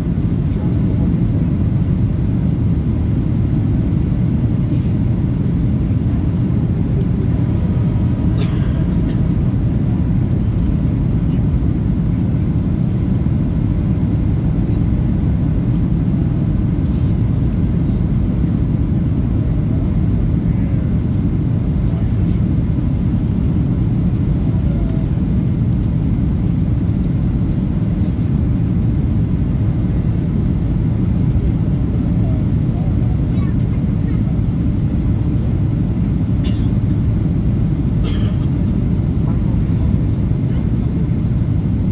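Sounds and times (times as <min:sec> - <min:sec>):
jet engines roaring in cabin: 0:00.0 - 0:41.9.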